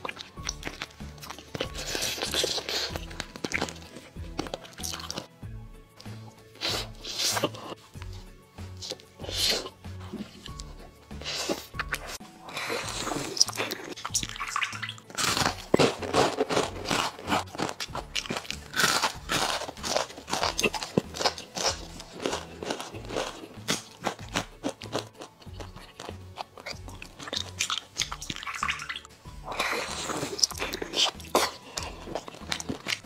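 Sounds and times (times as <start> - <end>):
crunchy biting and chewing: 0.0 - 5.3, 6.0 - 33.0
background music: 0.0 - 33.0.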